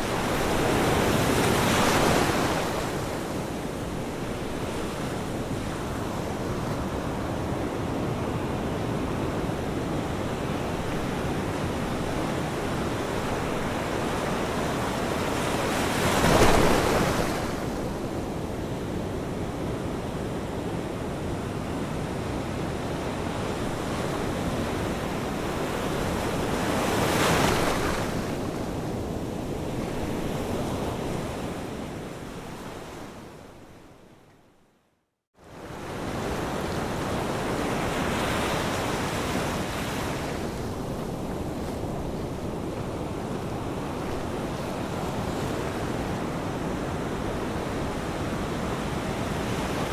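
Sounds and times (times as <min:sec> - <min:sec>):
ocean waves washing onto shore: 0:00.0 - 0:32.4, 0:35.5 - 0:49.9.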